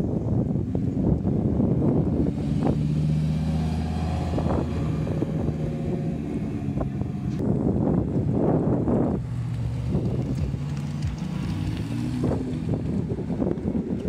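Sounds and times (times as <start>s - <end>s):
car engines running: 0.0s - 14.0s
wind buffeting microphone: 0.0s - 14.0s.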